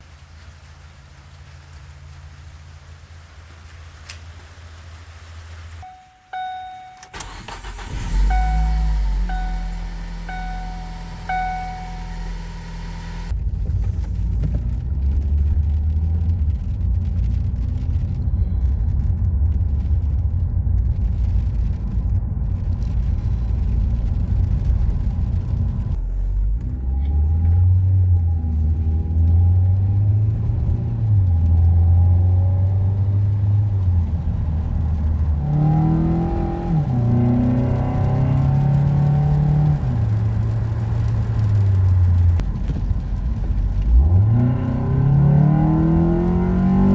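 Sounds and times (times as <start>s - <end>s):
car engine revving: 5.8s - 13.4s, 14.1s - 46.9s.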